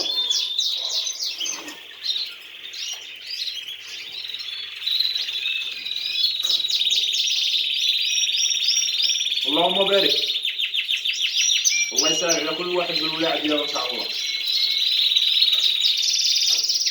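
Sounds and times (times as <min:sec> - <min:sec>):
canary warbling and trilling: 0:00.0 - 0:03.0, 0:03.6 - 0:16.9.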